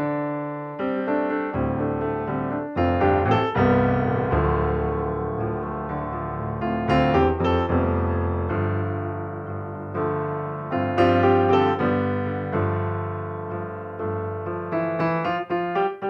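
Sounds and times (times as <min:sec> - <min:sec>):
calm solo piano: 0:00.0 - 0:16.0.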